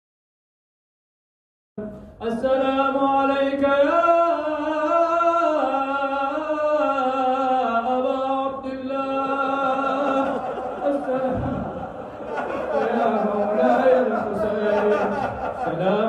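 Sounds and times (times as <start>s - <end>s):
person chanting unaccompanied: 2.2s - 16.0s.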